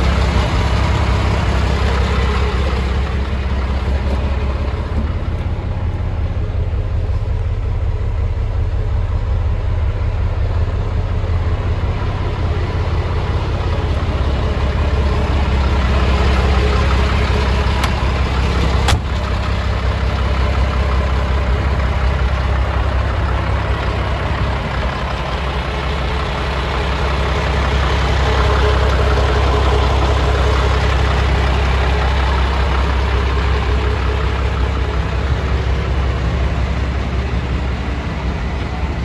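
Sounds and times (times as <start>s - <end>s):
diesel truck engine rumbling: 0.0s - 39.0s.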